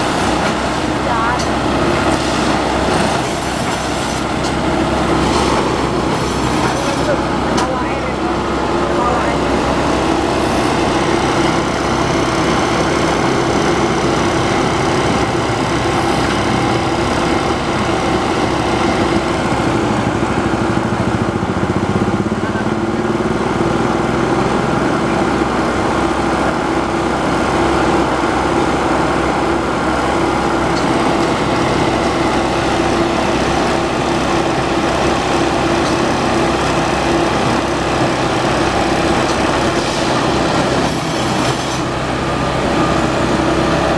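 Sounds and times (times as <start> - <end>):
rail maintenance machine whining: 0.0 - 43.9.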